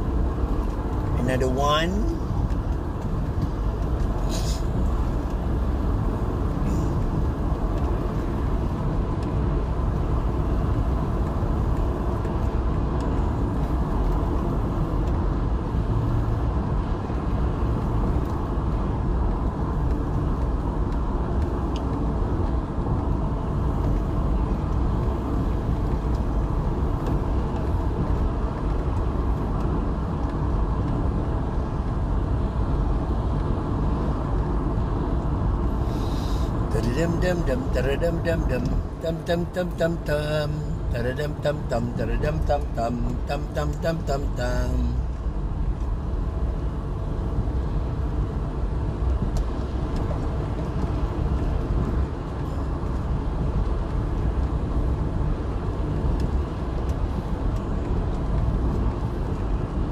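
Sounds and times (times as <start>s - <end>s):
car engine: 0.0s - 59.9s
tyre road noise: 0.0s - 59.9s.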